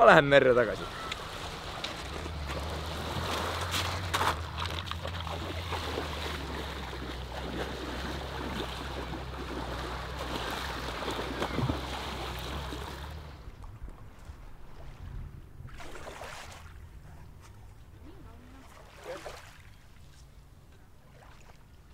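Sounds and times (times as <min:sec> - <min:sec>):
person wading in shallow water: 0:00.7 - 0:21.9.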